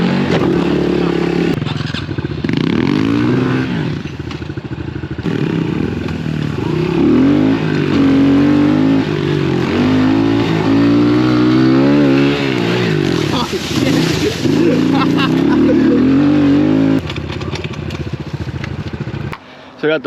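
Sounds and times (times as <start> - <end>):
small motorcycle engine revving: 0.0 - 19.3.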